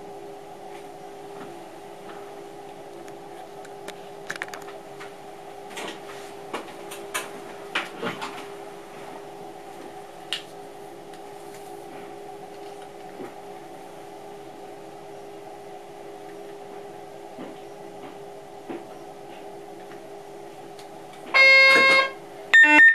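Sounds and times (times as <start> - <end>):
electrical hum: 0.0 - 22.9.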